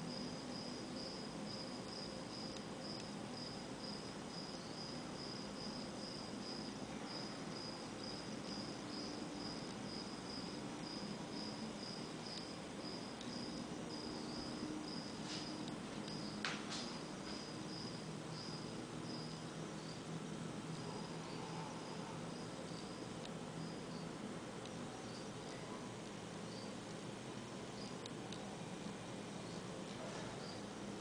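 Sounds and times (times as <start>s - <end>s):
cricket chirping: 0.0s - 31.0s.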